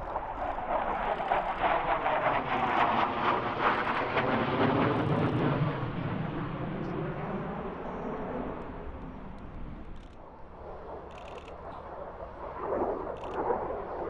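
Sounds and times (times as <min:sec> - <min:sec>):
jet engine passing: 0:00.0 - 0:14.0.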